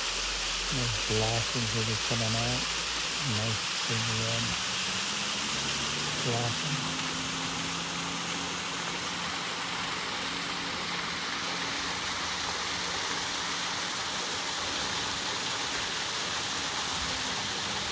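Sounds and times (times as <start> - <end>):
waterfall and creek rushing: 0.0 - 17.9.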